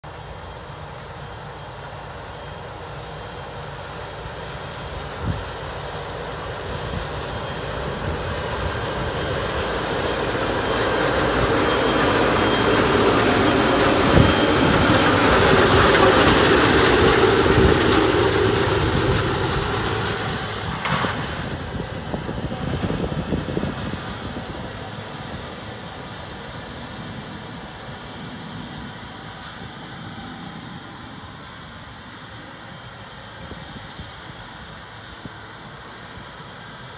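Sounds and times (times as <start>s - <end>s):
tractor and seeder passing: 0.1s - 36.9s.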